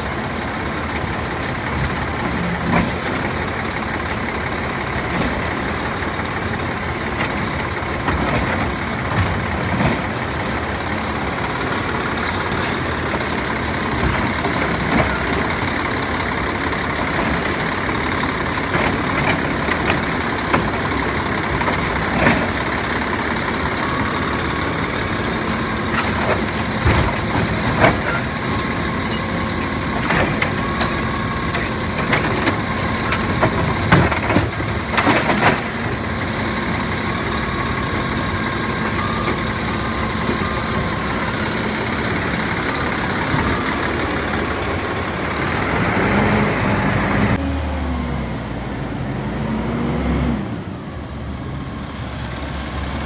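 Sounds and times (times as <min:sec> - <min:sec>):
garbage truck engine running: 0:00.0 - 0:49.8.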